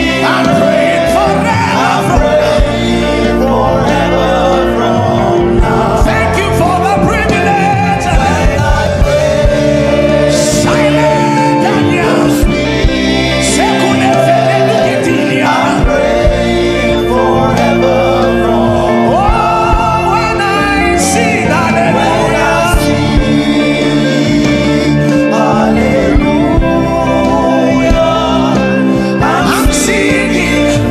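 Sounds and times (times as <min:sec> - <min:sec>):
person singing: 0:00.0 - 0:30.9
sustained keyboard chords: 0:00.0 - 0:30.9.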